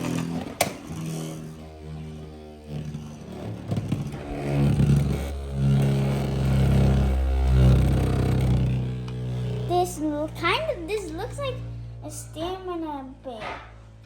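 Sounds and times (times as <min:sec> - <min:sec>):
spinning top whirring: 0:00.0 - 0:12.6.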